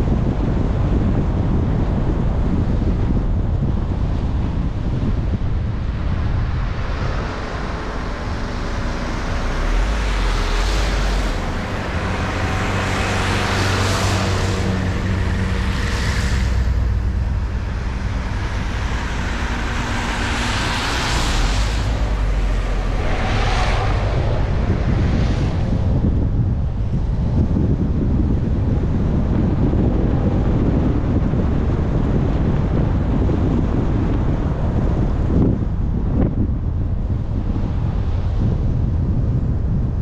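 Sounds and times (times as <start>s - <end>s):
low car engine hum: 0.0s - 40.0s.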